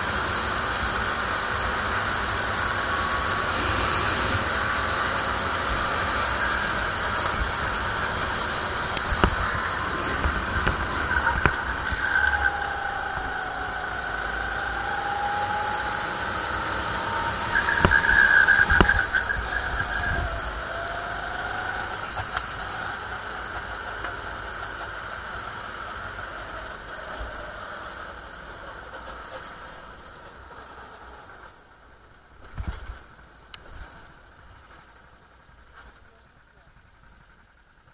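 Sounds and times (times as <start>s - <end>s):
kart engine running: 0.0s - 37.9s.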